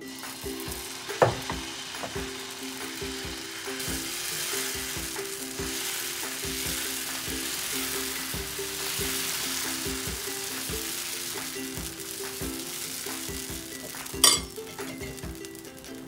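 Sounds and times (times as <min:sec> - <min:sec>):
background music with beat: 0:00.0 - 0:16.0
batter sizzling on a griddle: 0:00.0 - 0:16.0.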